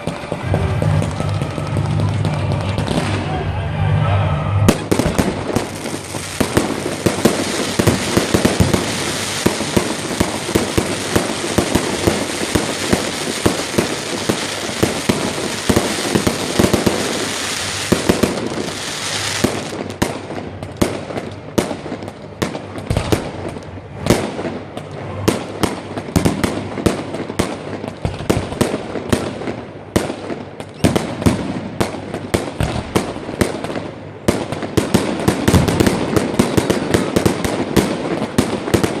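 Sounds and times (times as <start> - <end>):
fireworks bursting: 0.0 - 39.0
sharp firework bangs: 4.6 - 39.0.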